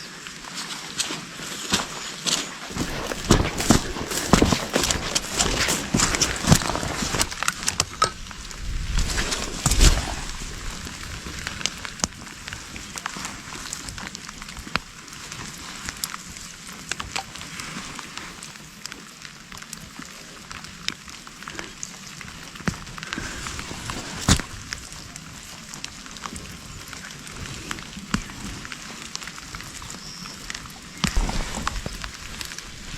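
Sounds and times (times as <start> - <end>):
leaves rustling and crackling: 0.0 - 32.9.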